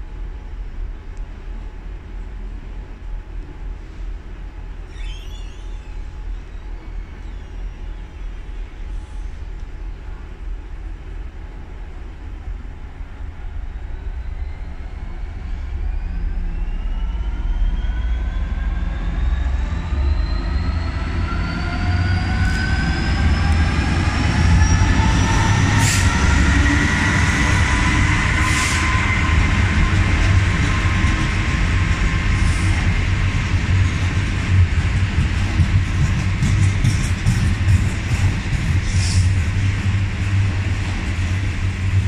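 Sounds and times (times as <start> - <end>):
diesel locomotive engine rumbling: 0.0 - 42.0.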